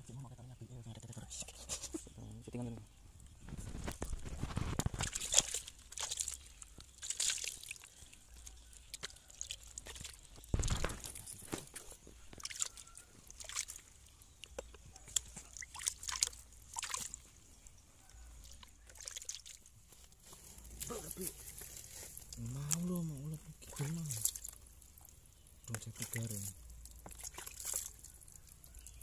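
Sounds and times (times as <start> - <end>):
wet meat squelching: 3.7 - 17.6, 18.2 - 29.0.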